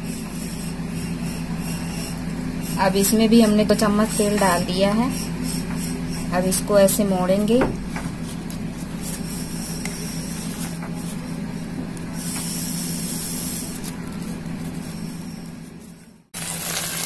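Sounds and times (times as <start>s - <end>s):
steady low hum: 0.0s - 16.4s.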